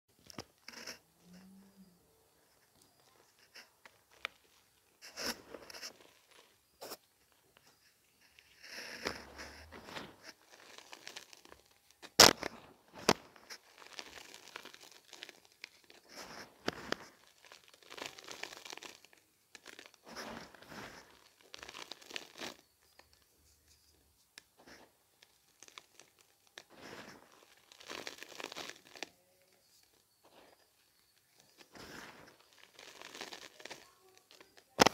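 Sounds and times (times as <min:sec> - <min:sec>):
chalk crunching and sifting: 0:02.5 - 0:07.0, 0:07.6 - 0:34.9.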